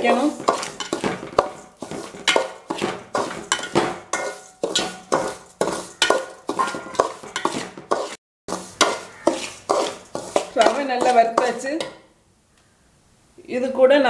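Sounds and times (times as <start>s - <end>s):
metal spoon scraping a metal pan: 0.0s - 12.0s.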